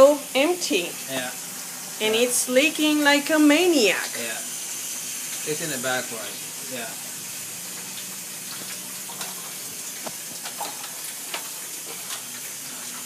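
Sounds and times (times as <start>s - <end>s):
steady hiss: 0.0s - 13.0s
water dripping and trickling: 0.0s - 13.0s.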